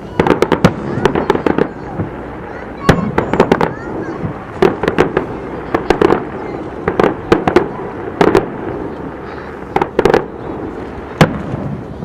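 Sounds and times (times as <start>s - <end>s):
continuous low rumble: 0.0s - 12.0s
fireworks bursting: 0.0s - 12.0s.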